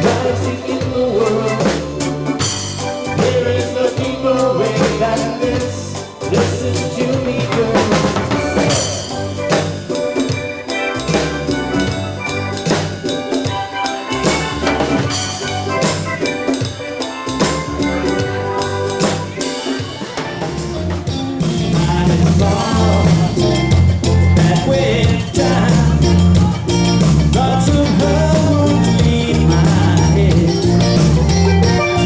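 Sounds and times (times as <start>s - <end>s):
bass line: 0.0s - 32.0s
drum kit: 0.0s - 32.0s
live band instrumental: 0.0s - 32.0s.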